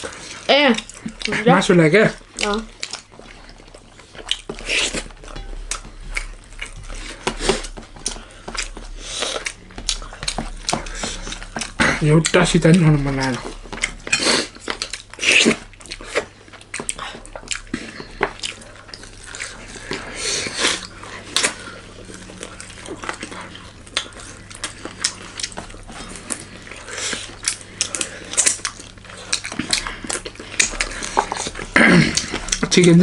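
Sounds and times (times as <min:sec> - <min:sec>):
wet chewing and lip-smacking: 0:00.0 - 0:33.0.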